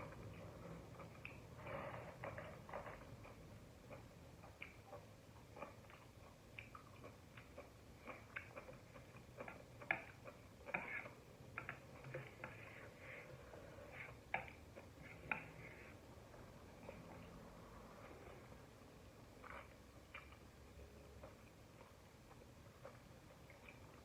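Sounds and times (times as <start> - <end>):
mouth chewing noodles: 0.0 - 24.0.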